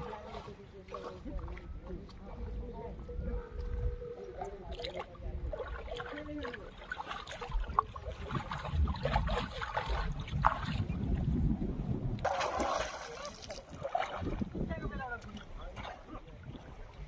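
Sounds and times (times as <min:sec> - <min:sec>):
river water splashing: 0:00.0 - 0:02.5, 0:04.2 - 0:11.3, 0:12.2 - 0:17.0
wind on microphone: 0:00.0 - 0:17.0.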